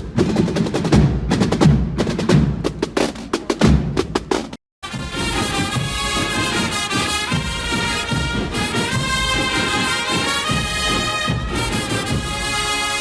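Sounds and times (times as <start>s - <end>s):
brass band playing march: 0.0s - 13.0s.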